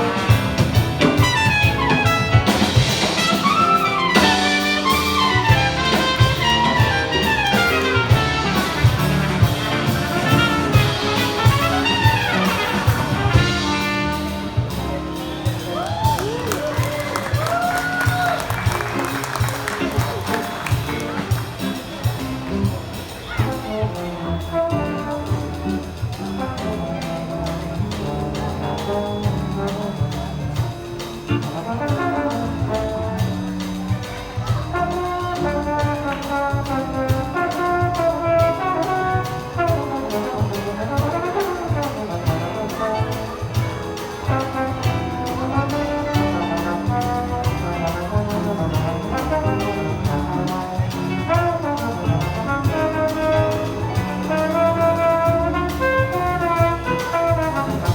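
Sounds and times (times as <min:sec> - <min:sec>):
bass: 0:00.0 - 0:57.9
brass section playing: 0:00.0 - 0:57.9
drum kit steady beat: 0:00.0 - 0:57.9.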